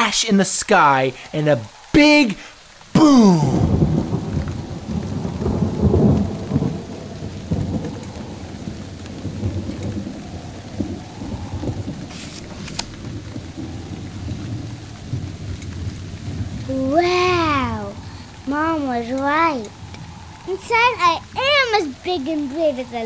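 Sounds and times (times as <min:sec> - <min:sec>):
steady rain: 0:00.0 - 0:23.0
thunder rumble: 0:00.0 - 0:23.0.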